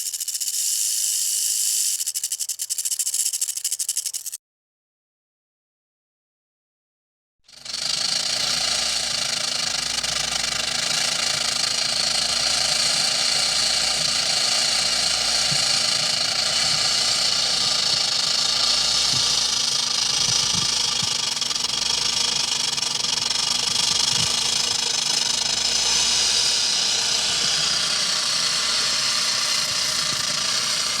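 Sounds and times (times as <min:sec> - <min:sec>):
rattlesnake tail rattling: 0:00.0 - 0:04.4, 0:07.6 - 0:31.0.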